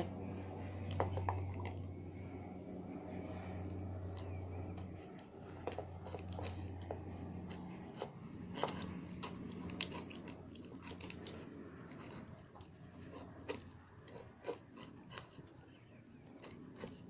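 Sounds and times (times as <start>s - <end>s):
low steady hum: 0.0s - 17.0s
puppy crunching food: 0.0s - 17.0s.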